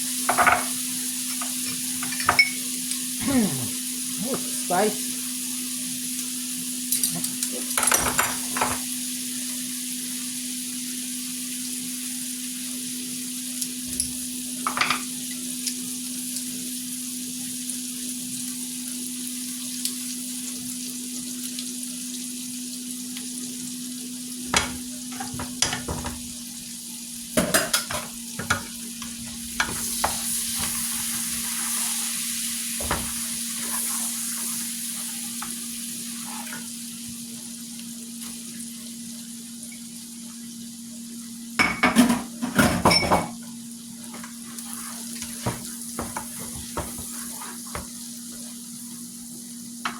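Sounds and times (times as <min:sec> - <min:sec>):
food sizzling in a pan: 0:00.0 - 0:49.9.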